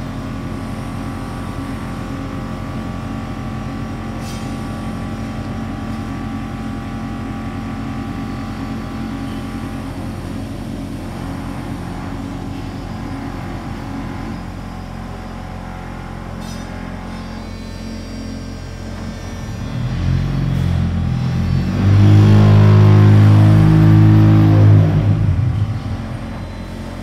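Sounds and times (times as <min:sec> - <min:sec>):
machine mechanical hum: 0:00.0 - 0:27.0.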